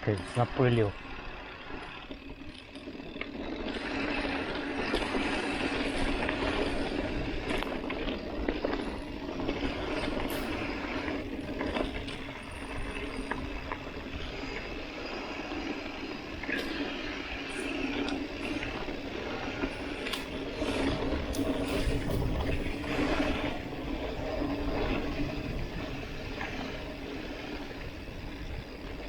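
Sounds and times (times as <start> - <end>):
bike tyres on dirt road: 0.0 - 29.0
bike rattling clicks: 1.0 - 29.0.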